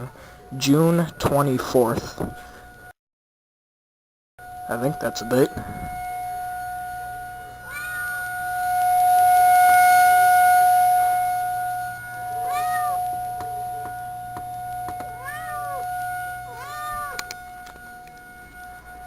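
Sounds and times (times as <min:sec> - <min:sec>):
steady high tone: 0:00.0 - 0:03.0, 0:04.4 - 0:19.0.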